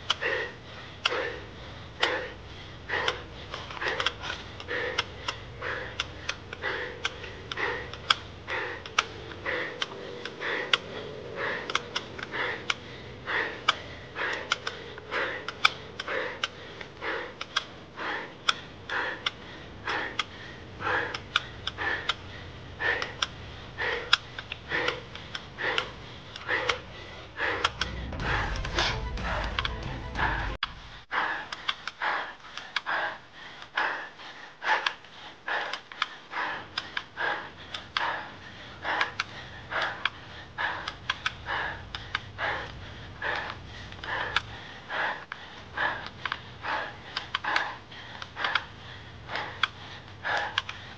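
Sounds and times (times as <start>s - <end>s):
heavy rhythmic panting: 0.0s - 50.9s.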